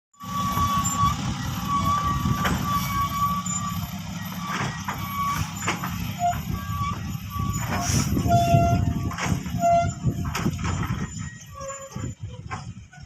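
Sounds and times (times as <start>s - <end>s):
reversing alarm beeping: 0.2s - 12.2s
truck engine running: 0.2s - 13.0s.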